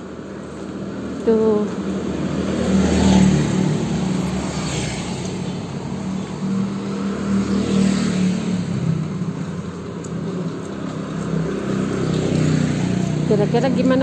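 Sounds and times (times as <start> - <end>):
motor scooters passing: 0.0 - 14.0.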